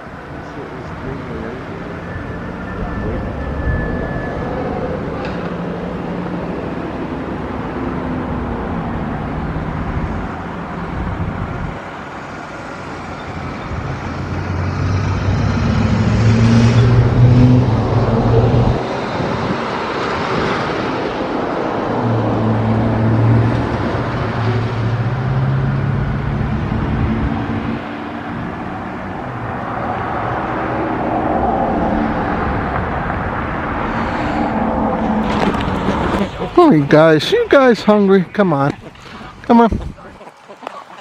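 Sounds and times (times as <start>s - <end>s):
motor vehicles passing: 0.0s - 41.0s.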